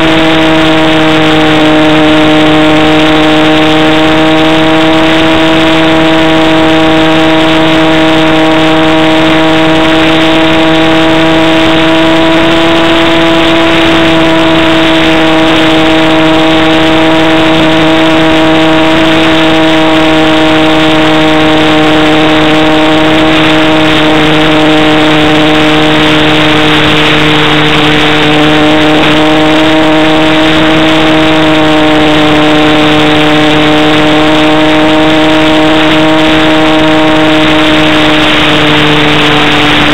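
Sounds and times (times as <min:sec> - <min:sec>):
model plane motor droning: 0:00.0 - 0:39.9
wind rush: 0:00.0 - 0:39.9.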